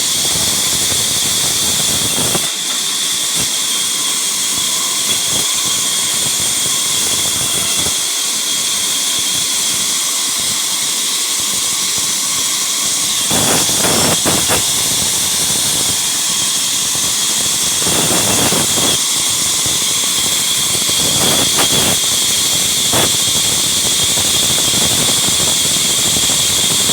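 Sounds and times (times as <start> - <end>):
saw blade cutting wood: 0.0 - 26.9
sawmill saw whining: 0.0 - 26.9.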